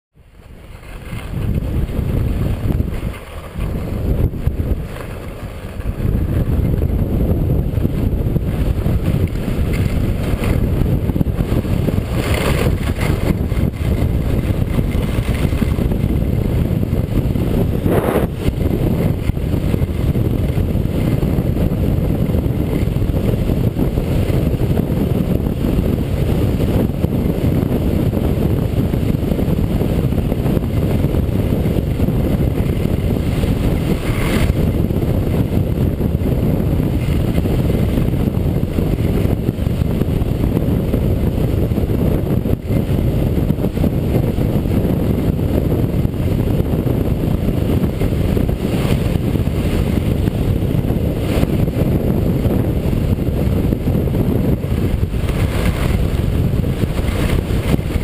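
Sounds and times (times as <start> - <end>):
wind buffeting microphone: 0.1 - 58.0.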